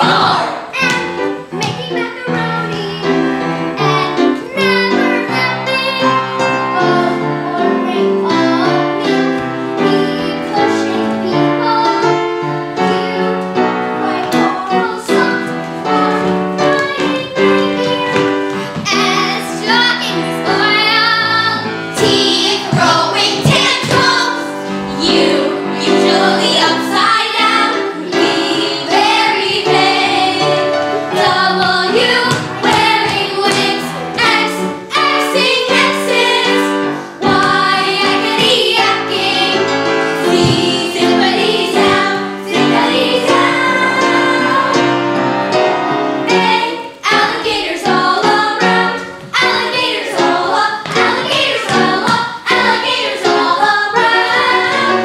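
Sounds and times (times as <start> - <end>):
children singing: 0.0 - 55.0
instrumental accompaniment: 0.0 - 55.0.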